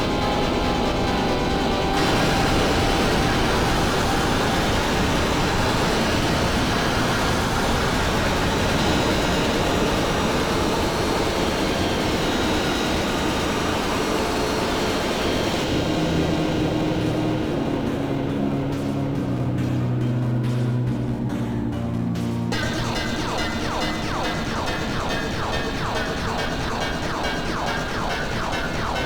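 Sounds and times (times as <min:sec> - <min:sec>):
distorted electronic music noise: 0:00.0 - 0:29.0.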